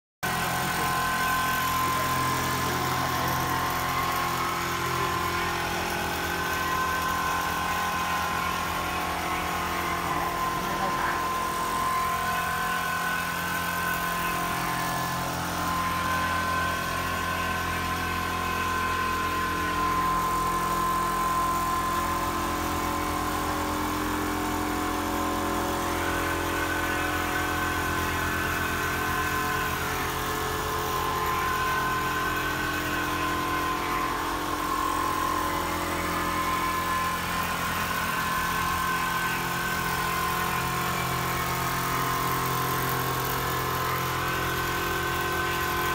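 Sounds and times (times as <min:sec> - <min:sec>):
quilting machine humming and whining: 0:00.2 - 0:45.9.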